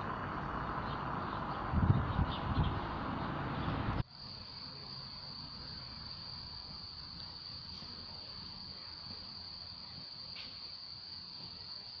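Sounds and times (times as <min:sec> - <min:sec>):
low outdoor rumble: 0:00.0 - 0:10.4.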